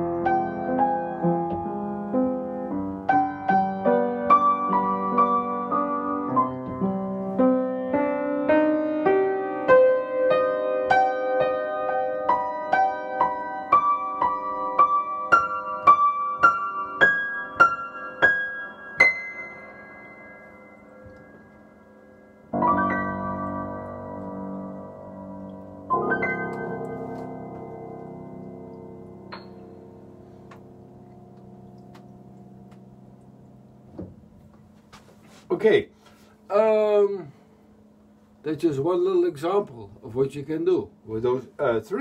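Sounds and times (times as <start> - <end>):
solo piano: 0.0 - 34.9.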